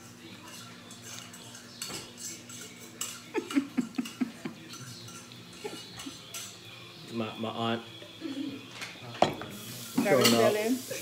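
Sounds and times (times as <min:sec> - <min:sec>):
plates and cutlery clinking: 0:00.0 - 0:11.0.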